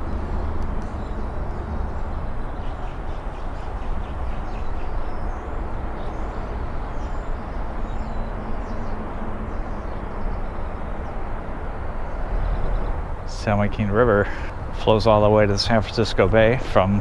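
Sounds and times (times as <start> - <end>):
faint birds chirping: 0.0 - 17.0
low outdoor rumble: 0.0 - 17.0.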